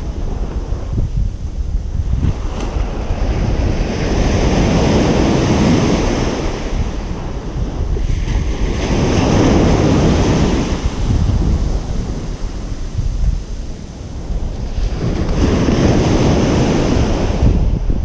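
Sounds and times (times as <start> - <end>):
ocean waves washing: 0.0 - 18.0.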